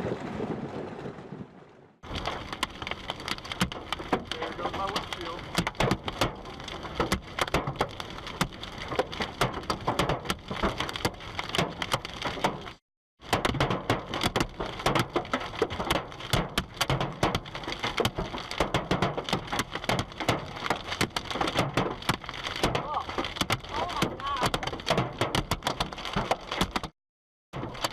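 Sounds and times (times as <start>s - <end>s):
hailstones pelting down: 2.0s - 26.9s, 27.6s - 27.9s.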